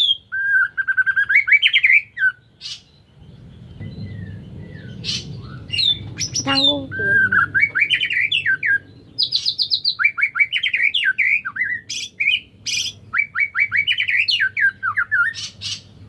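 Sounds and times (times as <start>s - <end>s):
songbird singing whistled notes: 0.0s - 16.0s.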